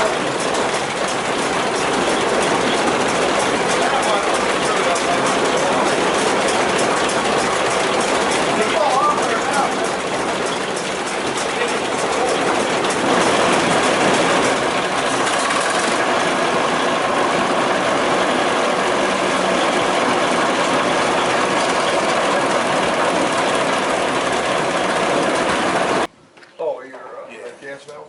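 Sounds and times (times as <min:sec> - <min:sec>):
engine running with knock: 0:00.0 - 0:26.1.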